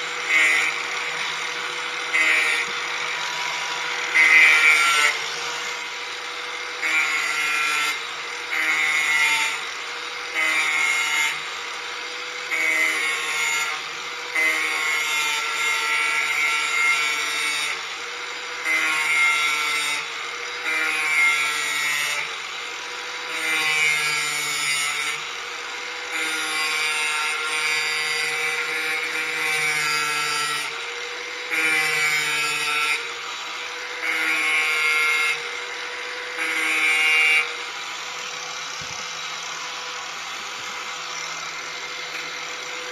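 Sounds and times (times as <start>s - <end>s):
angle grinder motor whine: 0.0s - 42.9s
grinder disc grinding steel: 0.0s - 42.9s.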